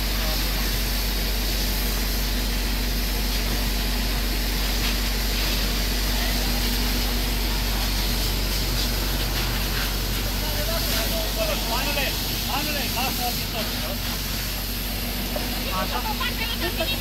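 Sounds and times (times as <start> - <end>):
fire engine pump drone: 0.0 - 17.0
hose spraying water hiss: 0.0 - 17.0.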